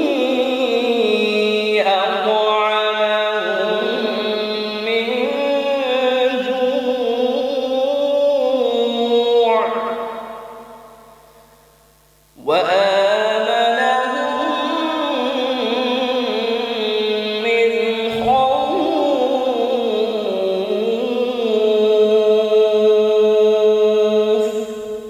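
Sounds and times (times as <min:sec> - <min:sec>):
man chanting through microphones: 0:00.0 - 0:10.8, 0:12.3 - 0:25.0.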